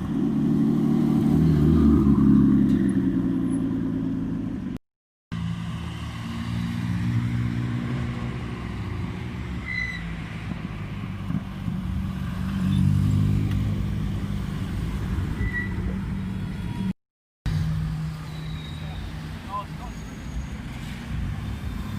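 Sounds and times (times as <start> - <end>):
car engines revving: 0.0 - 4.8, 5.4 - 16.9, 17.5 - 21.9.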